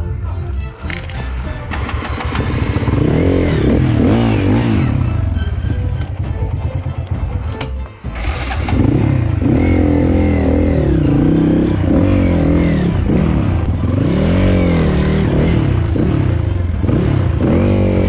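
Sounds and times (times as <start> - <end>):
dirt bike engine revving: 0.9 - 6.7, 8.0 - 18.0.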